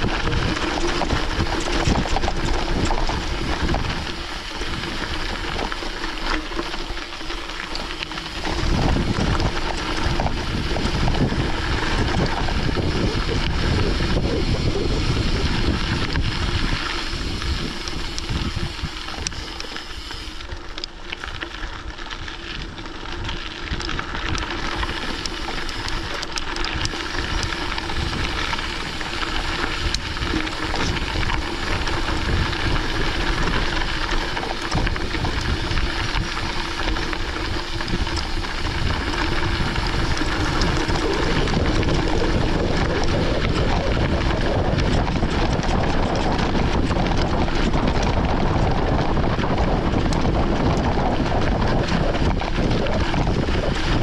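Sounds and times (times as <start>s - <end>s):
wind buffeting microphone: 0.0s - 6.2s, 8.0s - 20.0s, 22.2s - 54.0s
bike riding on gravel: 0.0s - 54.0s.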